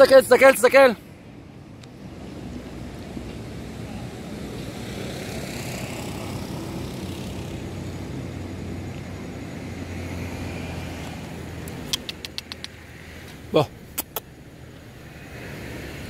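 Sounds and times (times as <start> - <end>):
engine drone: 1.0 - 16.0.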